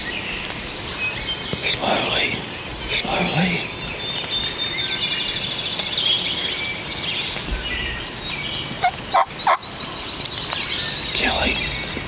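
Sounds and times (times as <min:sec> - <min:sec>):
sharp bird calls: 0:00.0 - 0:12.0
songbirds singing and trilling: 0:00.0 - 0:12.0.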